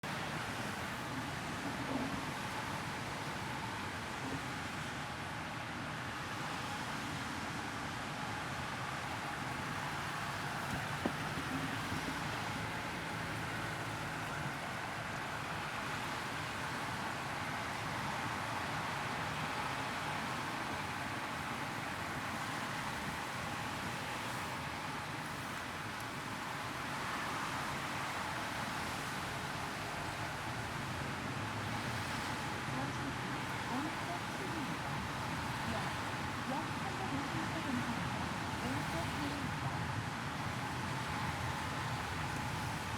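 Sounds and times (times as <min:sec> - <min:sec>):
road and traffic noise in car: 0:00.0 - 0:42.9
low engine rumble: 0:08.0 - 0:42.9.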